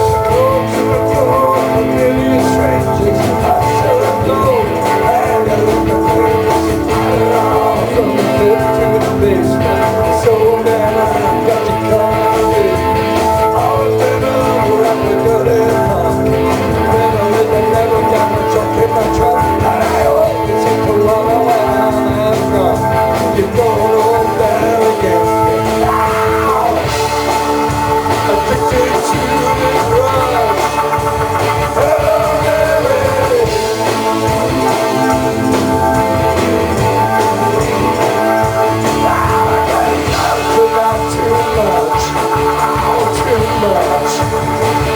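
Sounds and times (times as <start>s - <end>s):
guitar-led rock music: 0.0s - 44.9s.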